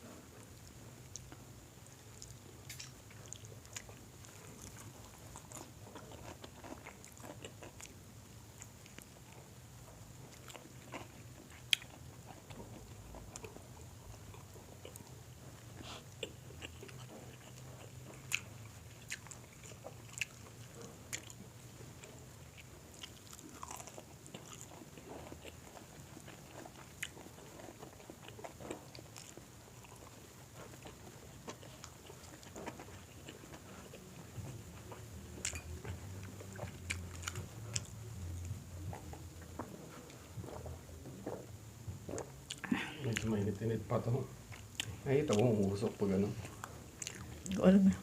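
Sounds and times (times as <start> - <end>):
faint low hum: 0.0 - 48.0
chewing crispy fried chicken: 0.1 - 48.0.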